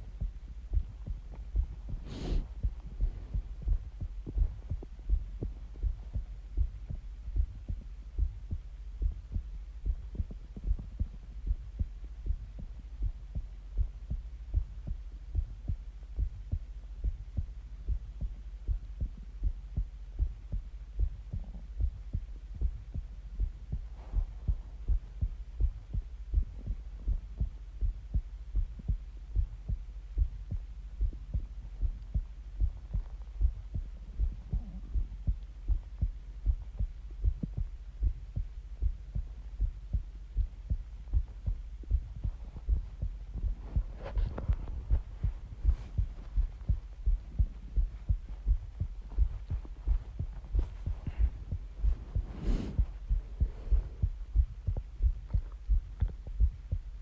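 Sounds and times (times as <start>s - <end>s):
constant hum: 0.0s - 57.0s
heartbeat thumps: 0.0s - 57.0s.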